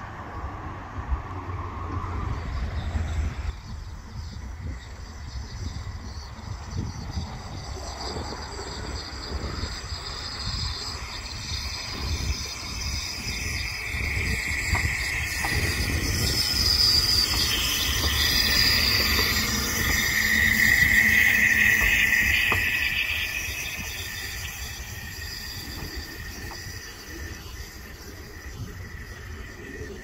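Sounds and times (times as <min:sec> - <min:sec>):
steam locomotive running slowly: 0:00.0 - 0:30.0
steam hissing: 0:04.7 - 0:30.0.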